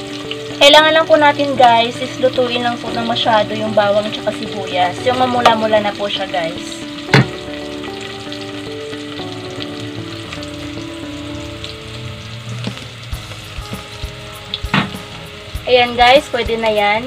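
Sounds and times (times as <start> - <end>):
garlic and onion sizzling in oil: 0.0 - 17.0.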